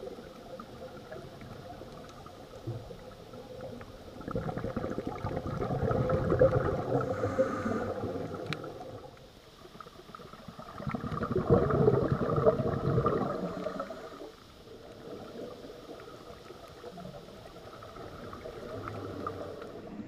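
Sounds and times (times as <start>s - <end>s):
underwater breath bubbles gurgling: 0.0s - 20.0s.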